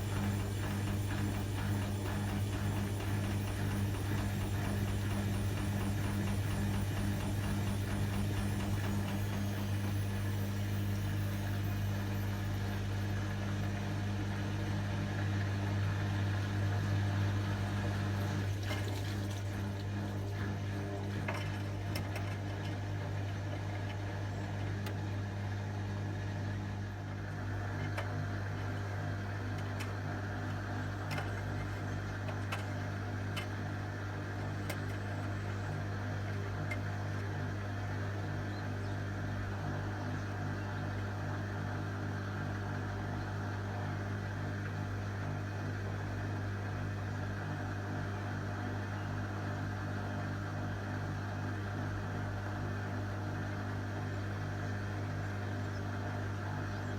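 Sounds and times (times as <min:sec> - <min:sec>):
washing machine motor humming: 0:00.0 - 0:56.9.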